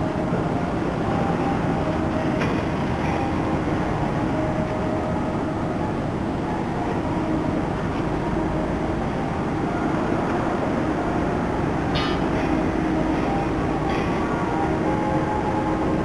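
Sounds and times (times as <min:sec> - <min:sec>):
marine engine rumble: 0:00.0 - 0:16.0.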